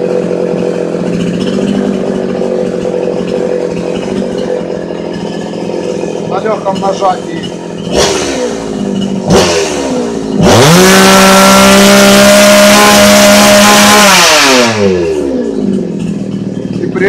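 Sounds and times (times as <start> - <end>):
chainsaw engine revving: 0.0 - 17.0.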